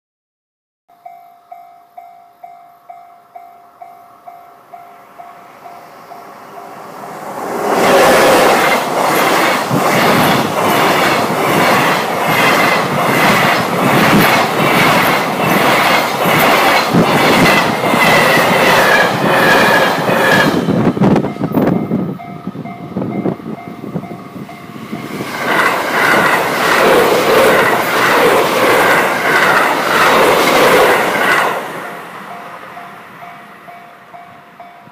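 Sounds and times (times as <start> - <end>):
electric train passing at speed: 1.0 - 34.9
freight train wheels clacking: 6.6 - 34.9.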